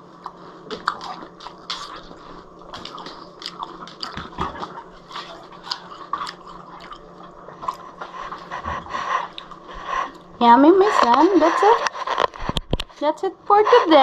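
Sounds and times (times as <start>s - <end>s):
dog chewing watermelon: 0.2s - 12.8s.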